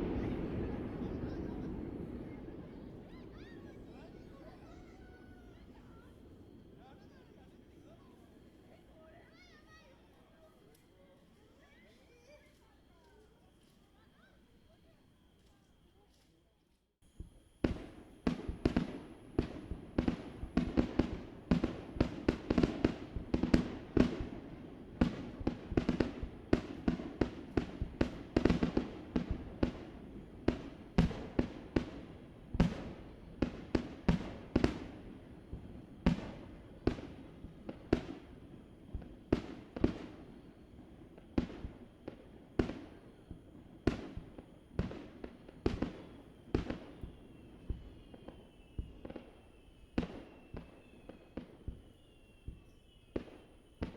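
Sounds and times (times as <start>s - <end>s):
fireworks booming with echo: 0.0s - 8.7s, 17.1s - 53.9s.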